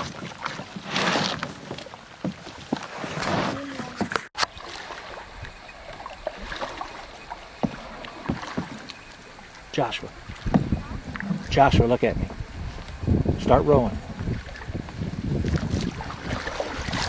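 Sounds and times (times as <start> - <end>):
canoe paddles knocking and scraping: 0.0 - 17.0.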